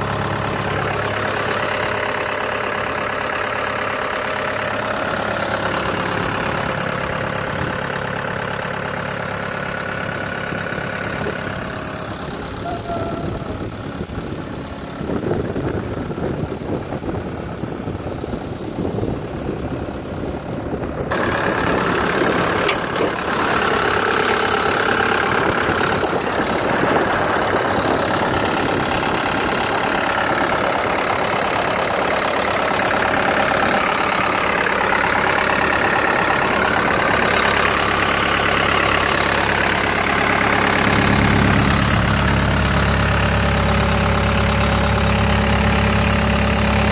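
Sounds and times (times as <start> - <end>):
diesel loader engine running: 0.0 - 46.9.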